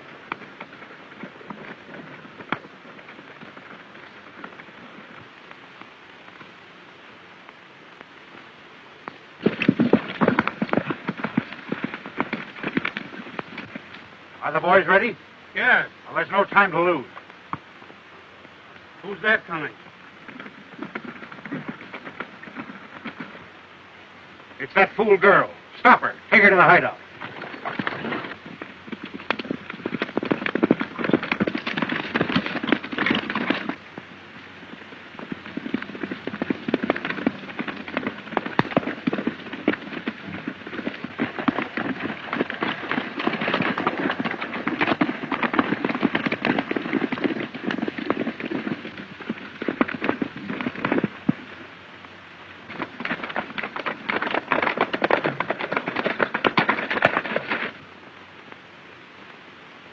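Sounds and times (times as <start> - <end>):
galloping horse hoofbeats: 0.0 - 58.7.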